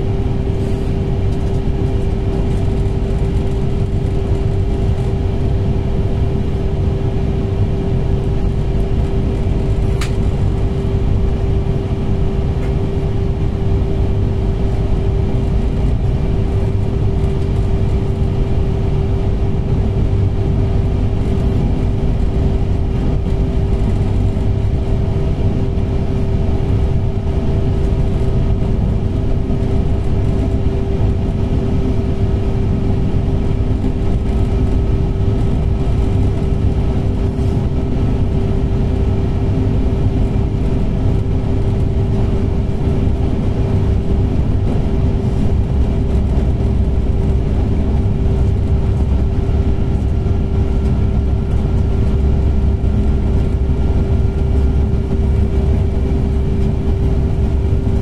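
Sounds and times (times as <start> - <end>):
constant humming tone: 0.0 - 58.0
train running rumble: 0.0 - 58.0.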